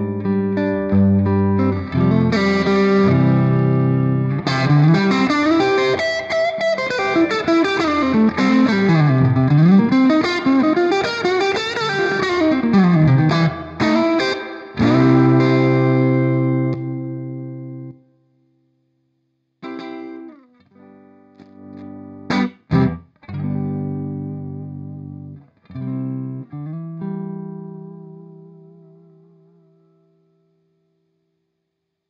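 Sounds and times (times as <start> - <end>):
electric guitar with reverb: 0.0 - 18.4, 19.6 - 30.9.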